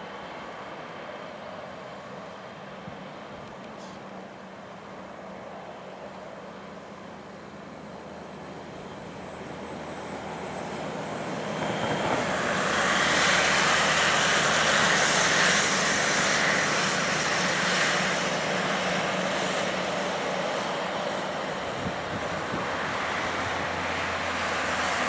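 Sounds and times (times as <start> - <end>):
distant jet engine rushing: 0.0 - 25.0.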